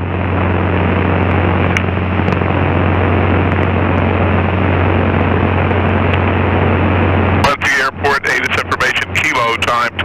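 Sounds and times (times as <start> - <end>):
airplane engine droning: 0.0 - 10.0.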